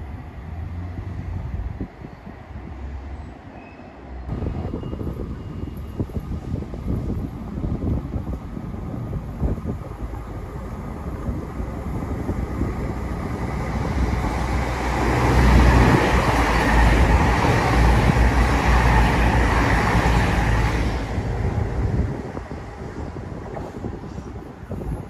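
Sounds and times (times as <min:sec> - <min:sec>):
passenger train passing: 0:00.0 - 0:25.0.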